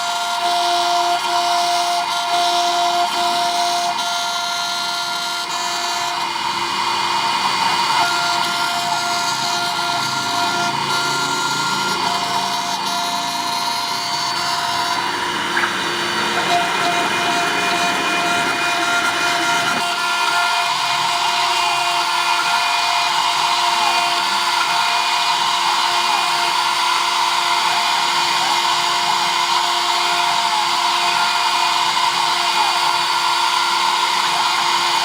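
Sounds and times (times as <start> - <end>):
machine pitched tones: 0.0 - 35.0
router spindle high whine: 0.0 - 35.0.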